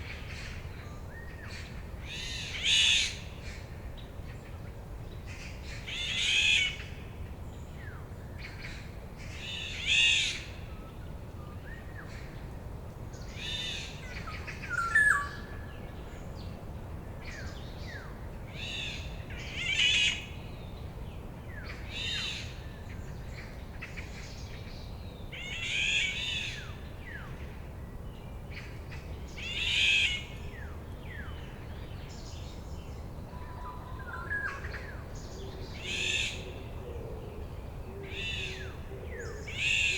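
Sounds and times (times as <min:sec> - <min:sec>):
songbirds singing: 0:07.5 - 0:39.9.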